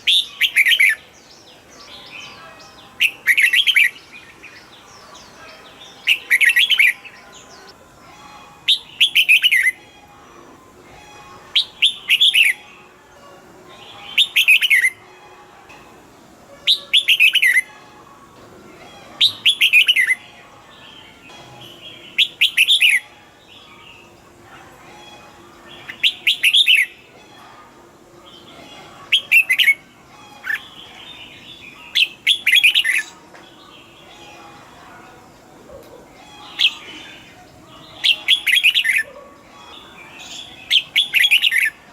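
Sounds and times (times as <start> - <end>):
bulbul singing: 0.0 - 13.1, 13.7 - 16.0, 16.6 - 18.2, 18.9 - 41.9.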